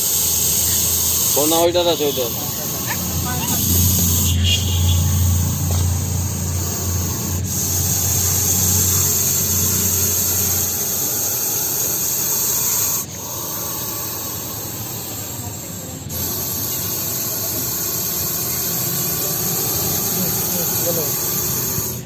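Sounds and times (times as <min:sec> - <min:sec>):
snake hissing: 0:00.0 - 0:22.0.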